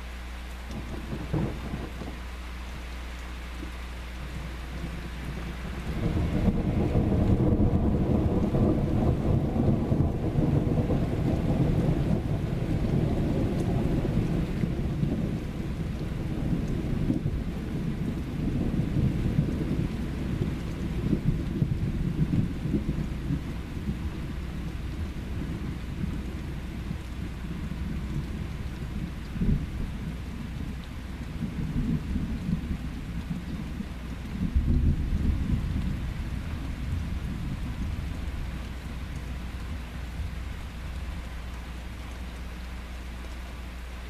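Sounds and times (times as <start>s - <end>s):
steady rain: 0.0s - 44.0s
thunder rumbling: 0.7s - 2.3s, 4.2s - 41.4s.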